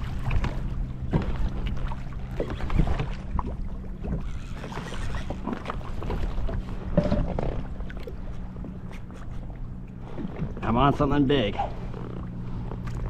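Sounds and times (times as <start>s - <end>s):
steady low hum: 0.0s - 13.0s
waves lapping against kayak hull: 0.0s - 13.0s.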